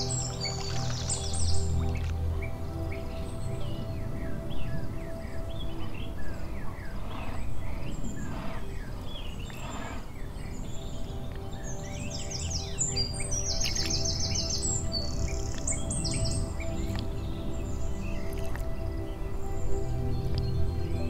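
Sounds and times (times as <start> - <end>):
birds chirping: 0.0 - 21.0
soft background music: 0.0 - 21.0.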